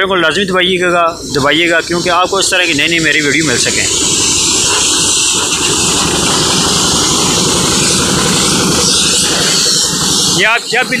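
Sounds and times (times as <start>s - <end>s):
engine running: 0.0s - 11.0s
compressed air rushing from hose: 0.9s - 11.0s.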